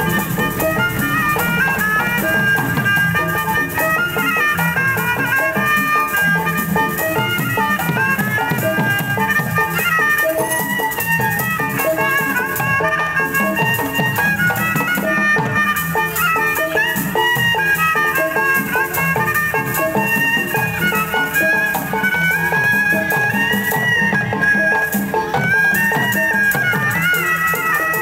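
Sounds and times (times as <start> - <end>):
bowed fiddle melody: 0.0 - 28.0
hand drum strokes: 0.0 - 28.0
rattling percussion: 0.0 - 28.0.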